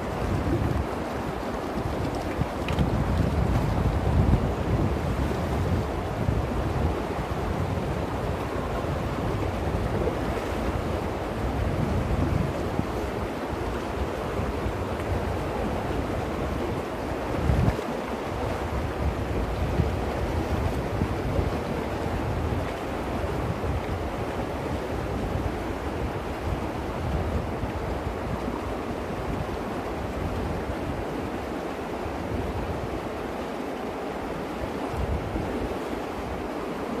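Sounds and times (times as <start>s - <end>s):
river rushing over rocks: 0.0s - 37.0s
wind rumble on microphone: 0.0s - 37.0s.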